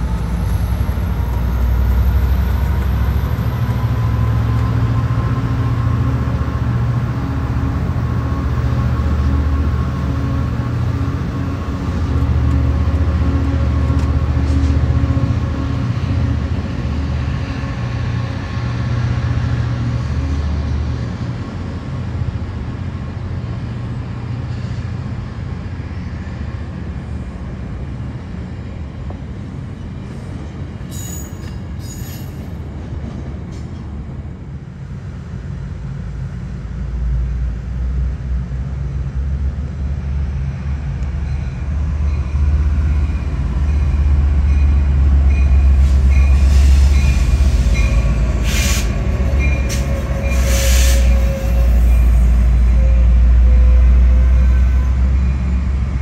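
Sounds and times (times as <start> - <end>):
diesel train rumbling past: 0.0 - 56.0.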